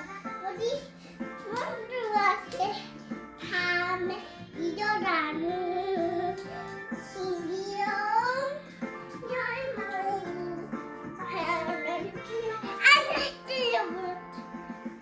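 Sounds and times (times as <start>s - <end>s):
child singing: 0.0s - 14.6s
instrumental background music: 0.0s - 15.0s.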